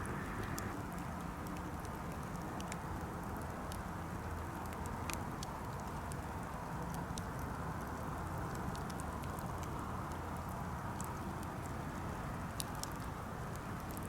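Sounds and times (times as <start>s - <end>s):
campfire flame rushing: 0.0s - 14.0s
wood crackling and popping: 0.0s - 14.0s.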